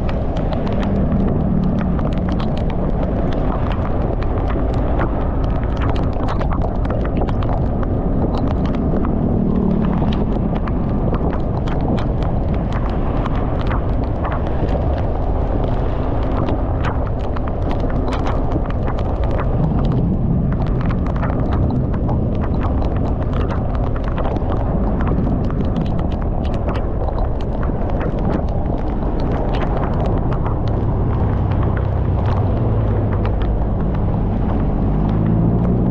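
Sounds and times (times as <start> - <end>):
raindrops tapping on camera: 0.0 - 35.9
wind and engine rumble: 0.0 - 35.9.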